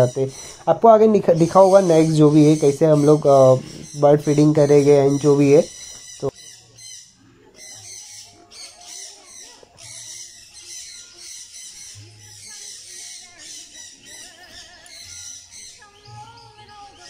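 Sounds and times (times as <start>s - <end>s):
birds chirping and calling: 0.0s - 17.0s
wavering bird calls: 0.0s - 17.0s.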